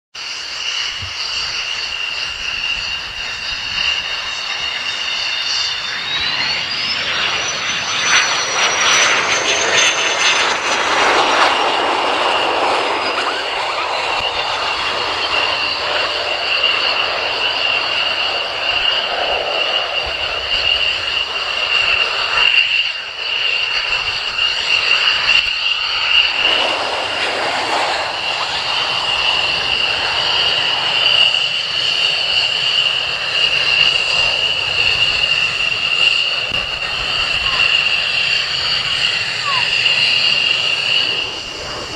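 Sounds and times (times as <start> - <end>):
jet engine whine: 0.1 - 41.9
steady jet noise: 0.2 - 41.9.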